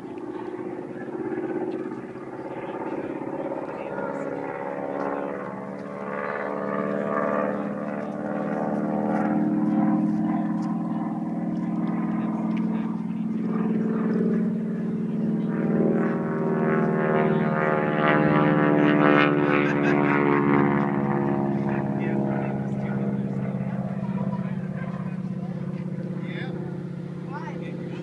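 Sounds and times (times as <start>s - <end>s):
airplane engine droning overhead: 0.0s - 28.0s.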